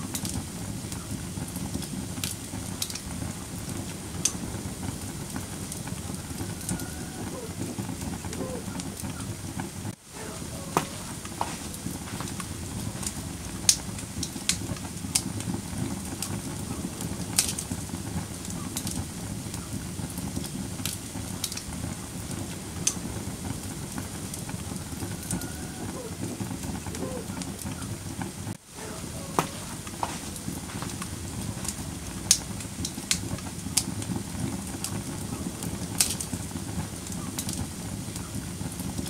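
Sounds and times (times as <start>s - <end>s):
fire crackling and popping: 0.0s - 39.0s
wood fire flames rumbling: 0.0s - 39.0s.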